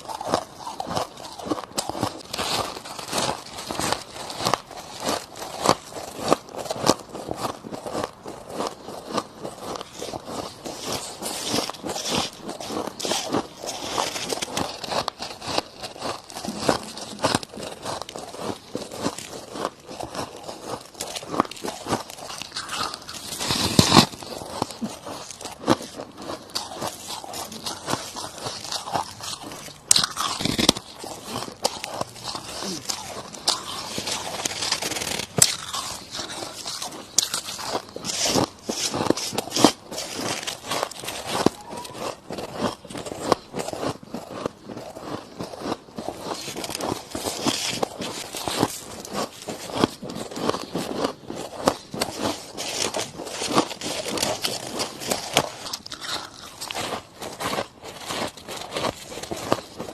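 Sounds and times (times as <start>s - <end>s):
chewing crushed ice crunches: 0.0s - 59.9s.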